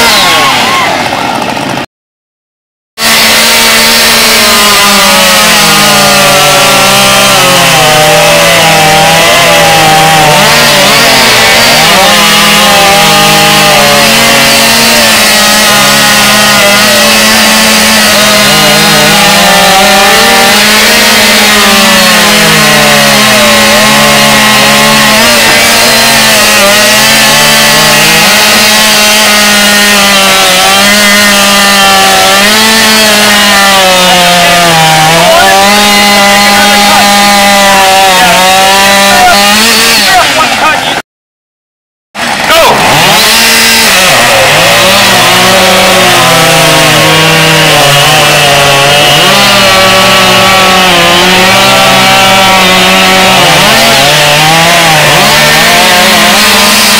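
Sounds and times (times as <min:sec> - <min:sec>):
chainsaw cutting through log: 0:00.0 - 0:01.9, 0:03.0 - 0:41.0, 0:42.2 - 0:56.9.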